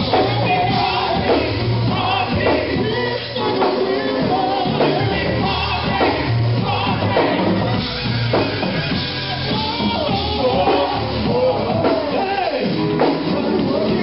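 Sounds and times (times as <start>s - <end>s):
bass line: 0.0s - 14.0s
drum beat: 0.0s - 14.0s
gospel group singing: 0.0s - 14.0s.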